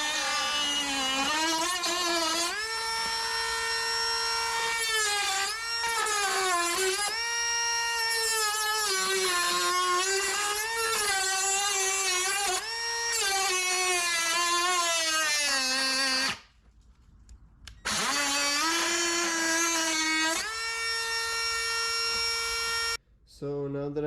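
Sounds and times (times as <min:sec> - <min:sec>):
power tool whining: 0:00.0 - 0:16.5, 0:17.7 - 0:23.0.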